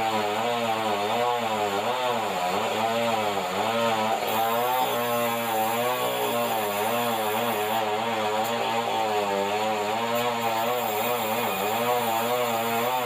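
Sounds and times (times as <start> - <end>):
band saw machine hum: 1.0 - 13.0.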